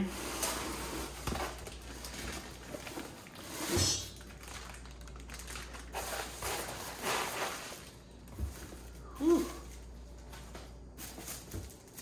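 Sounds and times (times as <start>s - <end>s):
foam and plastic bag crinkling: 0.0s - 12.0s.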